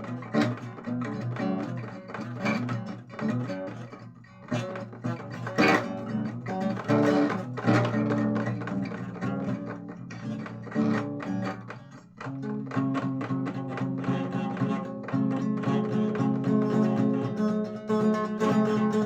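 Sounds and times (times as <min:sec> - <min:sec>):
plucked and strummed guitar: 0:00.0 - 0:19.0.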